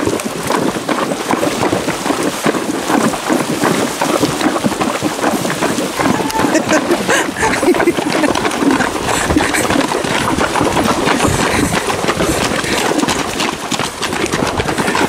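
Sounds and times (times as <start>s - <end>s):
hooves splashing through stream: 0.0s - 15.0s.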